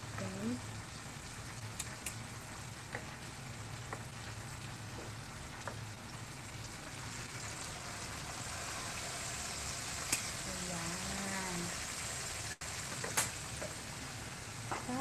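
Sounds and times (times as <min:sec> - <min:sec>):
oil sizzling in a frying pan: 0:00.0 - 0:15.0.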